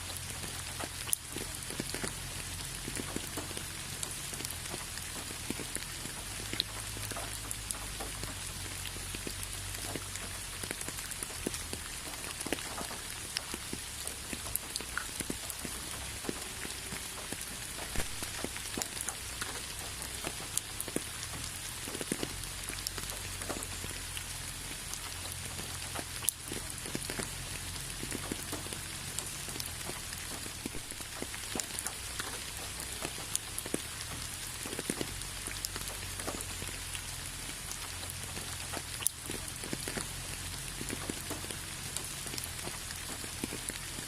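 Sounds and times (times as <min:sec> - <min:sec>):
rain falling: 0:00.0 - 0:44.0
raindrops pattering on surface: 0:00.0 - 0:44.0.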